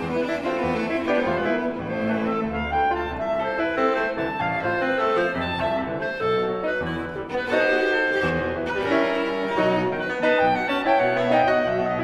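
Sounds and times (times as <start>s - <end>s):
clarinet cello and piano trio: 0.0s - 12.0s.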